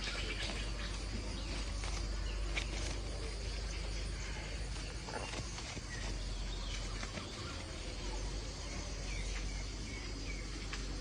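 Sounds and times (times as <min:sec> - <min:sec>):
faint bird chirps: 0:00.0 - 0:11.0
insects hissing: 0:00.0 - 0:11.0
low hum: 0:00.0 - 0:11.0.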